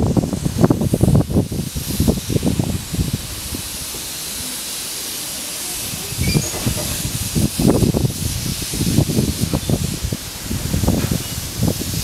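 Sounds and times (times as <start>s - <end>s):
wind rumble on microphone: 0.0s - 4.1s, 5.8s - 12.0s
steam locomotive hissing steam: 0.0s - 12.0s.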